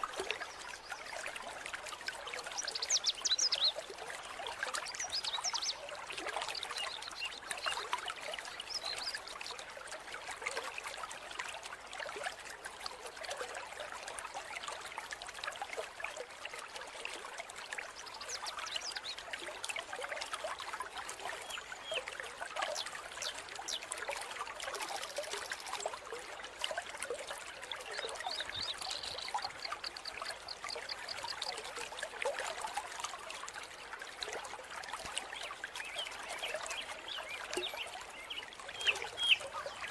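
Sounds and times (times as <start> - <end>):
stream water trickling and splashing: 0.0 - 39.9.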